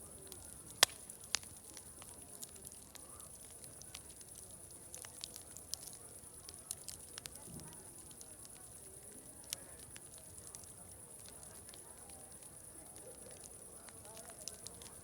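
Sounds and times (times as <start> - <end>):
faint distant voices murmuring: 0.0 - 15.0
wood fire crackling and popping: 0.0 - 15.0.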